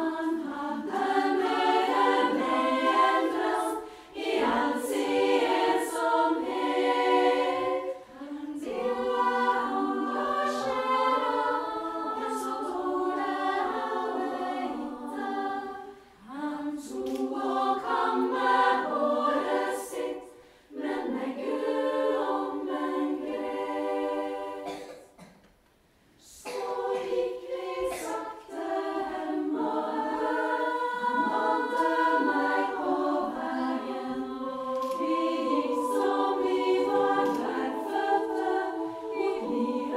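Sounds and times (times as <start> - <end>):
women's choir singing: 0.0 - 25.3, 26.2 - 39.9.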